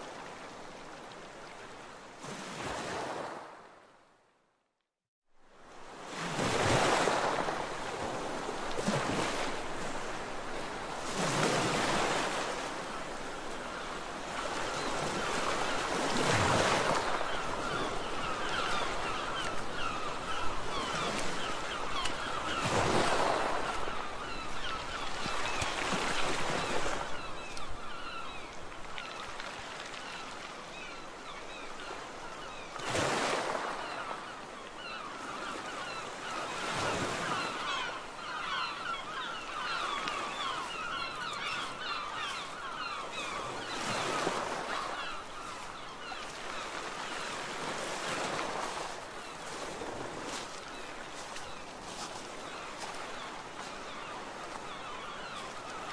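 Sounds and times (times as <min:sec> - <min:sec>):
sea waves breaking on beach: 0:00.0 - 0:03.9, 0:05.5 - 0:55.9.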